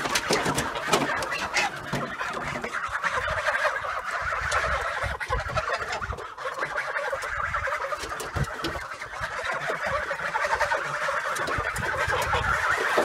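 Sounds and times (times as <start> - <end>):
geese honking and cackling: 0.0 - 13.0.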